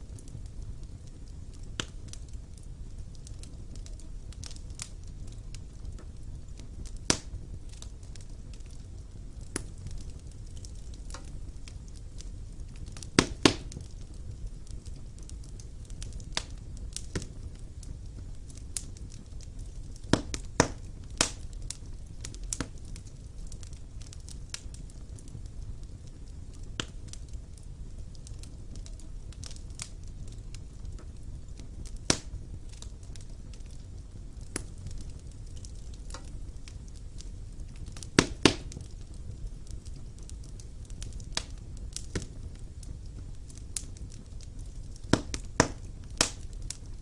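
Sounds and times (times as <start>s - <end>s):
fire flames rumbling: 0.0s - 47.0s
wood fire crackling and popping: 0.0s - 47.0s.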